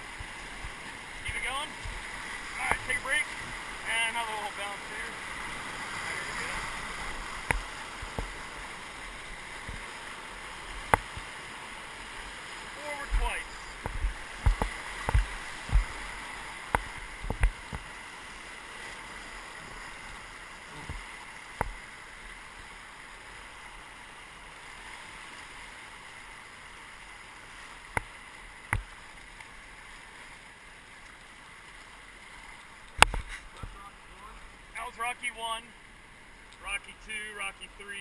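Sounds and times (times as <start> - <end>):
whitewater rushing: 0.0 - 38.0.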